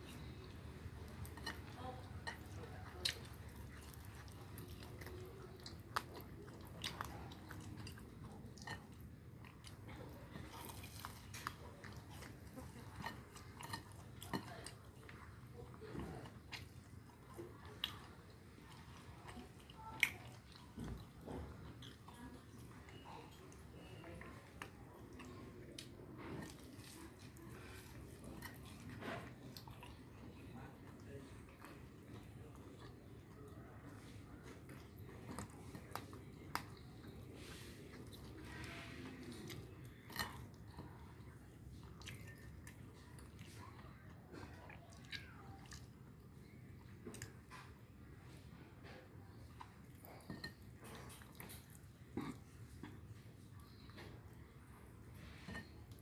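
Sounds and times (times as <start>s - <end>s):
cat chewing fish: 0.0s - 56.0s.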